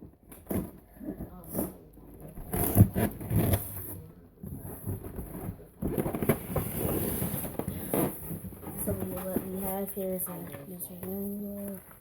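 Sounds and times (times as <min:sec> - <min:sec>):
cardboard and packing rustling: 0:00.0 - 0:12.0.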